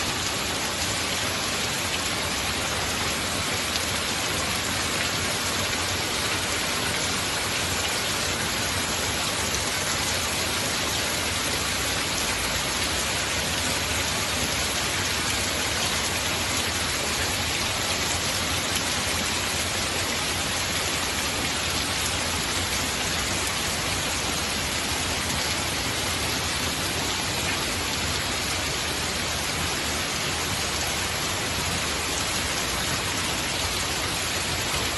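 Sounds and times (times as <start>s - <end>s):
heavy rain pattering: 0.0s - 34.9s.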